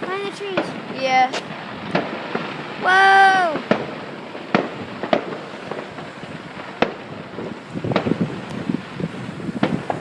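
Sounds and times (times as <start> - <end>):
distant fireworks popping: 0.0 - 10.0
wind buffeting microphone: 0.0 - 10.0.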